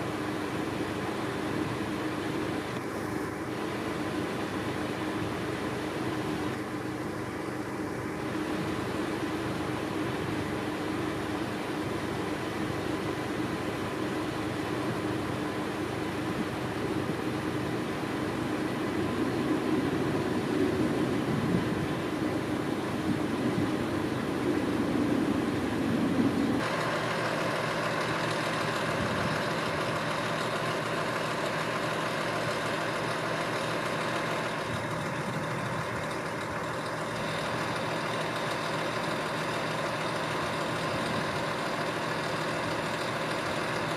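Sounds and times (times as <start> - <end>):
vehicle engine idling: 0.0 - 43.9.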